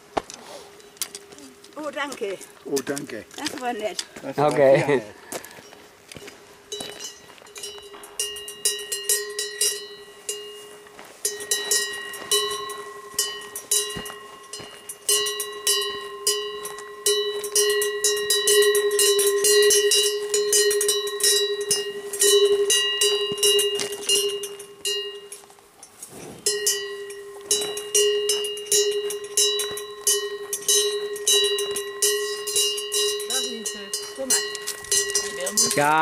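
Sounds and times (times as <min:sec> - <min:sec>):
cow bell clanking: 0:00.8 - 0:36.0.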